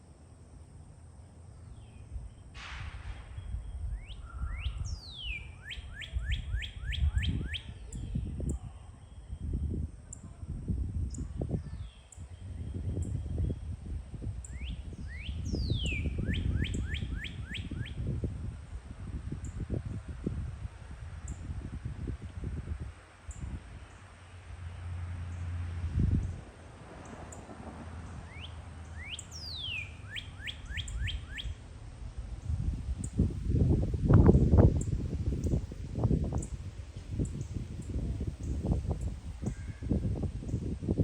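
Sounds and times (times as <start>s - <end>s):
songbird singing: 0.7s - 2.5s, 3.2s - 41.0s
wind on microphone: 2.6s - 24.1s, 25.7s - 41.0s.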